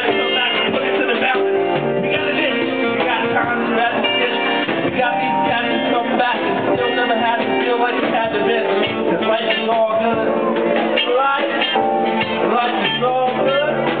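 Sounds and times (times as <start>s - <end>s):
person singing: 0.0s - 14.0s
piano: 0.0s - 14.0s.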